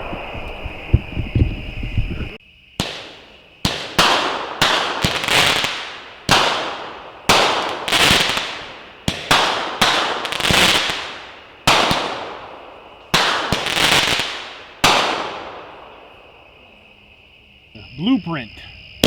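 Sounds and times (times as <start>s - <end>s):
firework crackling sizzle: 0.0s - 16.4s
firework reports: 0.0s - 16.4s.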